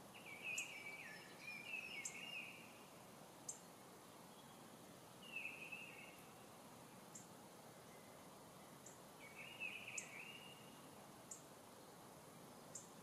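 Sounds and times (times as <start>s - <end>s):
faint songbird chirping: 0.0s - 13.0s.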